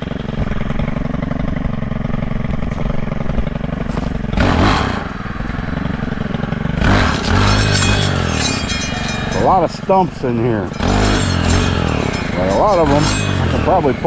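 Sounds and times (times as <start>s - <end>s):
brush cutter engine revving: 0.0s - 14.0s.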